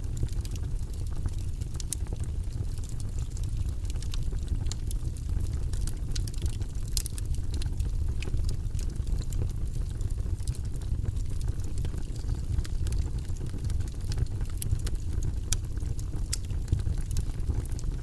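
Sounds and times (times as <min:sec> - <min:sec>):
burning wood crackling and popping: 0:00.0 - 0:18.0
fireplace flames rumbling: 0:00.0 - 0:18.0.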